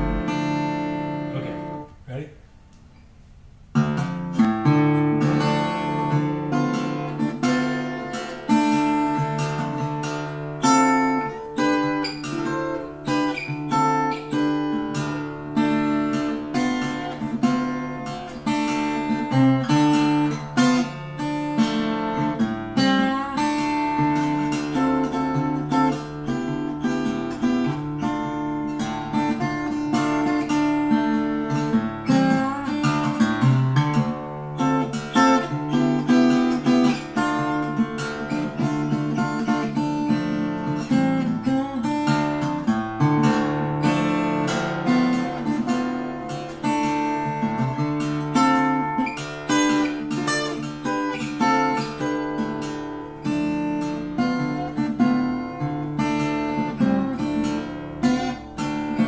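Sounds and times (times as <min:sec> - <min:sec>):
fingerpicked acoustic guitar: 0:00.0 - 0:59.0.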